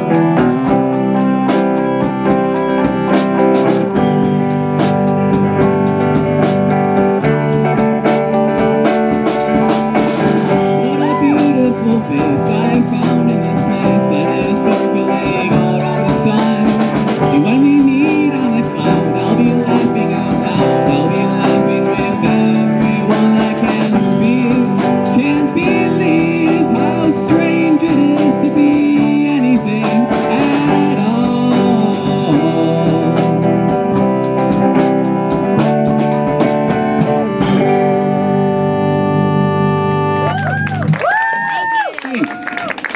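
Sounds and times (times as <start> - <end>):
person singing: 0.0 - 6.4, 7.2 - 40.9
live rock band playing: 0.0 - 42.9.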